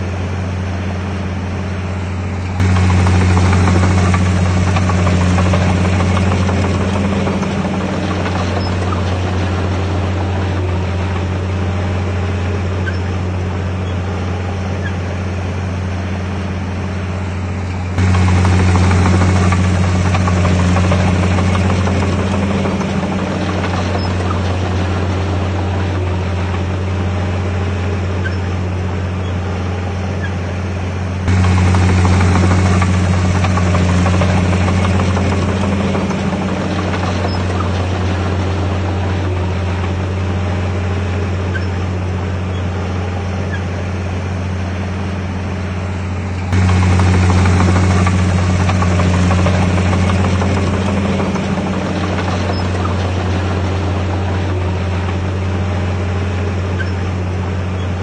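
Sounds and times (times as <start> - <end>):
bulldozer diesel engine humming: 0.0 - 58.0.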